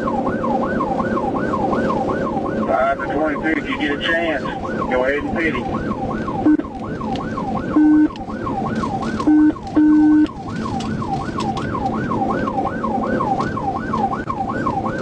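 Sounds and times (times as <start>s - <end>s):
police siren yelping: 0.0s - 15.0s
road and engine noise: 0.0s - 15.0s.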